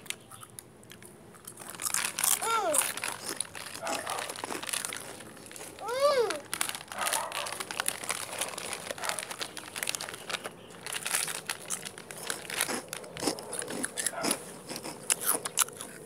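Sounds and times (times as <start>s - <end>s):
crunchy food being chewed: 0.0s - 16.0s.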